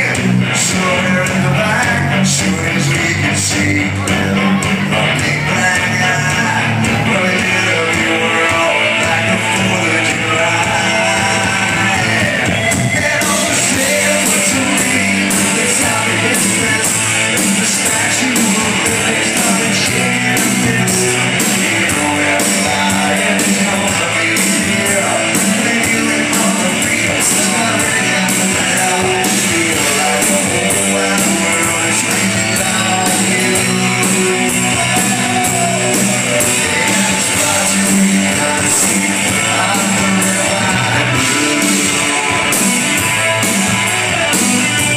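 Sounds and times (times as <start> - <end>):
drums and cymbals: 0.0 - 44.9
electric guitars: 0.0 - 44.9.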